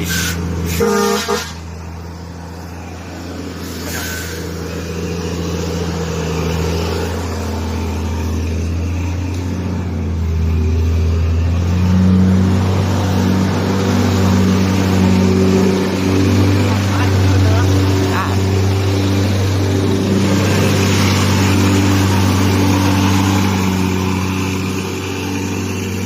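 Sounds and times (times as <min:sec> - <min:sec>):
diesel truck engine revving: 0:00.0 - 0:26.0.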